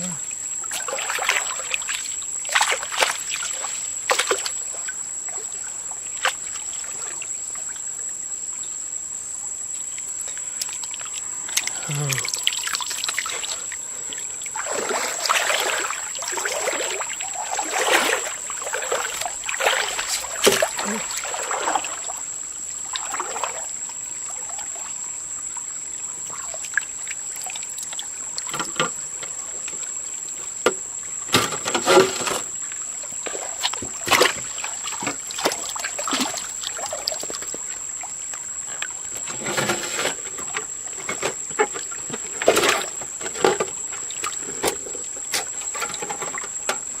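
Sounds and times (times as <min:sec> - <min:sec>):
water splashing and sloshing: 0:00.0 - 0:47.0.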